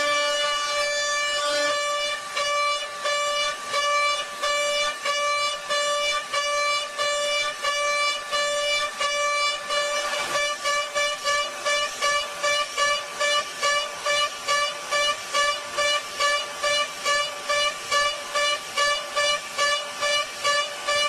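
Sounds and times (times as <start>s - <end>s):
pulsing synthesised horn note: 0.0s - 21.0s.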